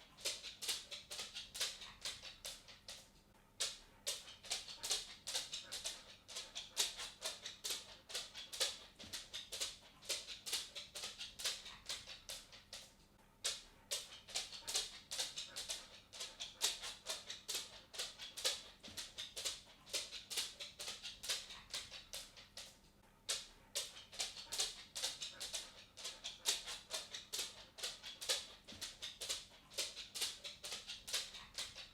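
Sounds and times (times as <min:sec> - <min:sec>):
dog claws clicking on wooden floor: 0:00.0 - 0:31.9.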